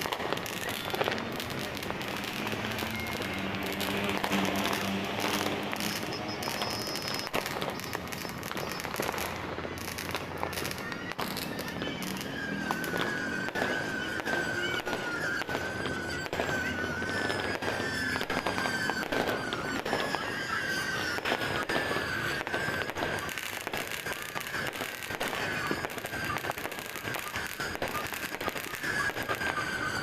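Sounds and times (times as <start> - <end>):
fireworks crackling and popping: 0.0 - 30.0
high whistling tone sliding down: 0.0 - 30.0.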